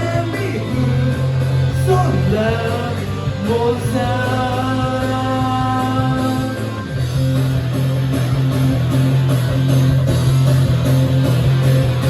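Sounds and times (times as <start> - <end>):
rock band playing instrumental: 0.0 - 12.0.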